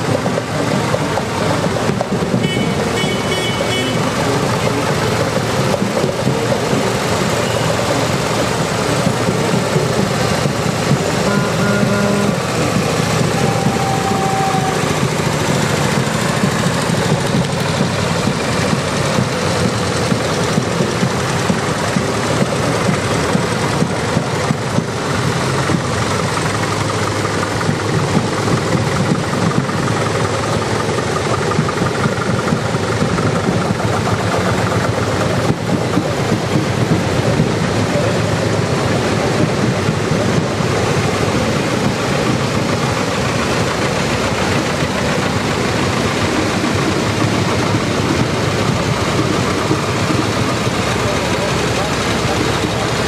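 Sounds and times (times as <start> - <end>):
tractor engines driving past: 0.0 - 53.0.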